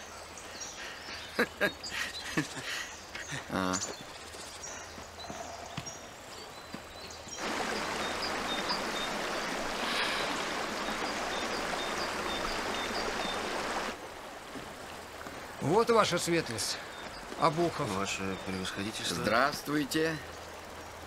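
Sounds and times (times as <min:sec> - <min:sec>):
rushing water: 0:00.0 - 0:05.2, 0:06.0 - 0:21.0
small birds chirping: 0:00.0 - 0:14.0, 0:14.9 - 0:21.0.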